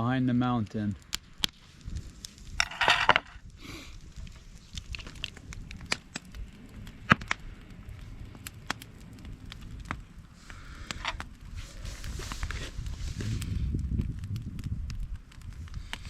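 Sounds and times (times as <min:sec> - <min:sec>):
sharp clicks and crackles: 0:00.9 - 0:16.0
crunching rustle: 0:01.0 - 0:16.0.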